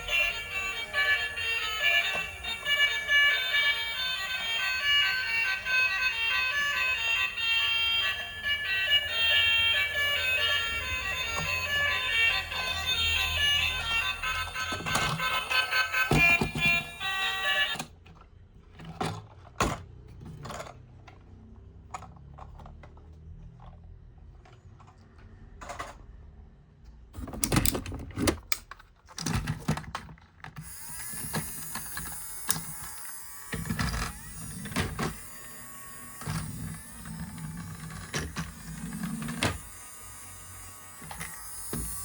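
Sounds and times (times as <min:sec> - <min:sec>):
plastic toys and packaging handled: 0:00.0 - 0:26.2, 0:27.2 - 0:42.0.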